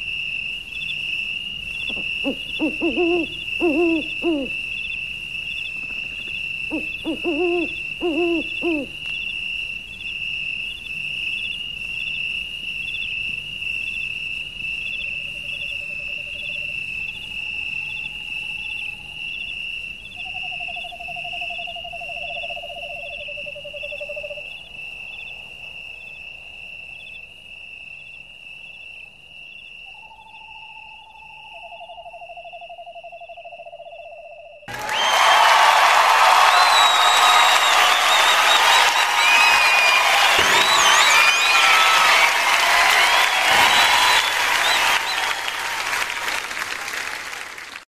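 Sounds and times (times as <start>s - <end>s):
lower insect trills: 0.0s - 34.7s, 36.4s - 45.4s
high insect trill: 0.0s - 45.8s.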